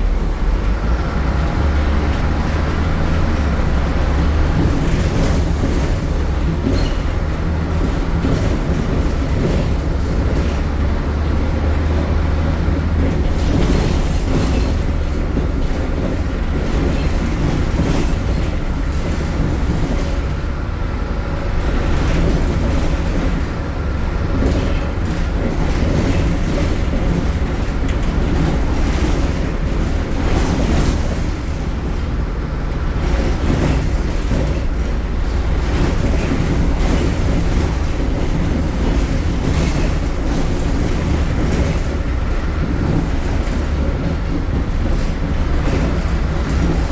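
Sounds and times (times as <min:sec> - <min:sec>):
bus diesel engine running: 0:00.0 - 0:46.9
rattles and knocks from bus: 0:00.0 - 0:46.9.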